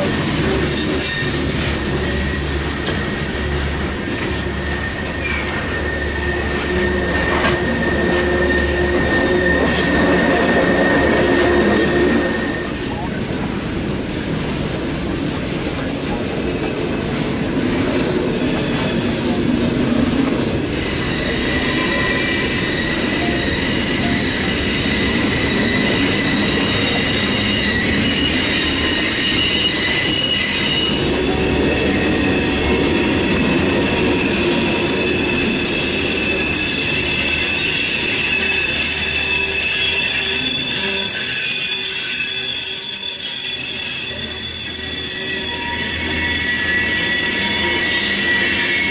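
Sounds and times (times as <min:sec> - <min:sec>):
train wheels rumbling on rails: 0:00.0 - 0:48.9
high-pitched wheel squealing: 0:00.7 - 0:13.1, 0:20.7 - 0:48.9.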